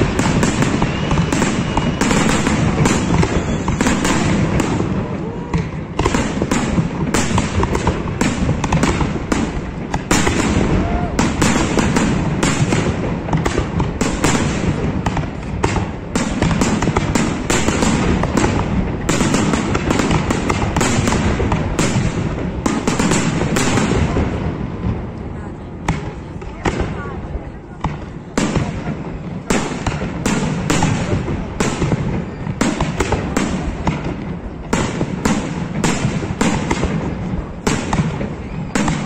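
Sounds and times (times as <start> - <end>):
fireworks bursting and crackling: 0.0 - 39.0.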